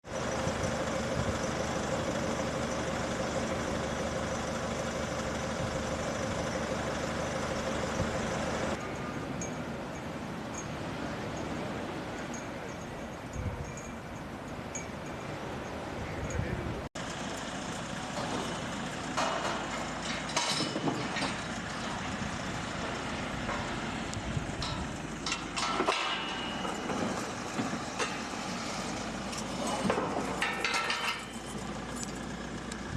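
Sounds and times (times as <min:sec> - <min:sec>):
steady outdoor traffic noise: 0:00.0 - 0:32.9
vehicle engine hum: 0:00.0 - 0:32.9.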